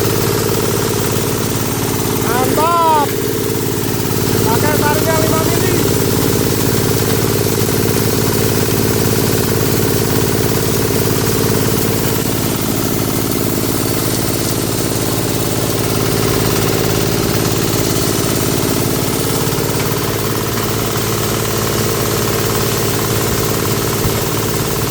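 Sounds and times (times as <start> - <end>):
shredder machine droning: 0.0 - 24.9.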